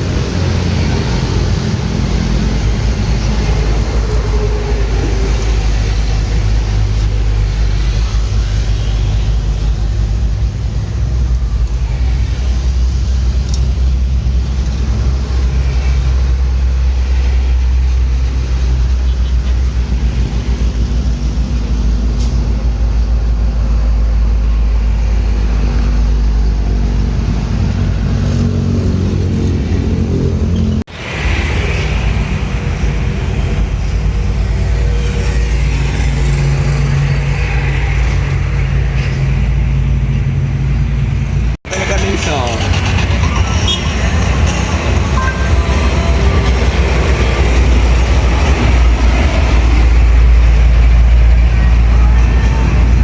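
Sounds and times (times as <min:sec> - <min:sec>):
vehicle engine rumble and road noise: 0:00.0 - 0:53.0.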